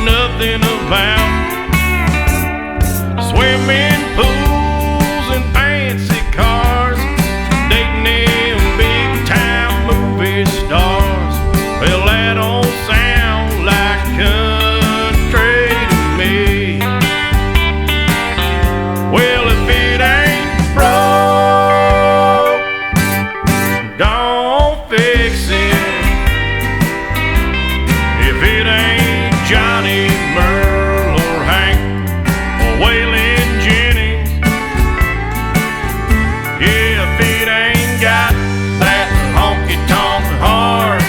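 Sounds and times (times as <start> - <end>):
country band bass and drums: 0.0 - 41.0
lead guitar bending notes: 0.0 - 41.0.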